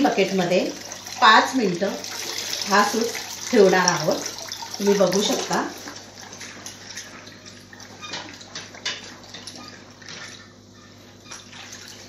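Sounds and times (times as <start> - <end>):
liquid sloshing and splashing in bucket: 0.0 - 12.0.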